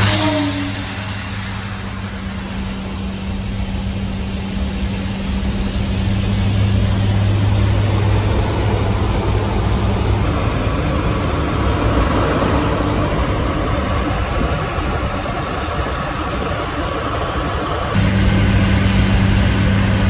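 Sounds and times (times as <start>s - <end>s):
rushing air noise: 0.0s - 20.0s
turboprop engines droning: 0.0s - 20.0s.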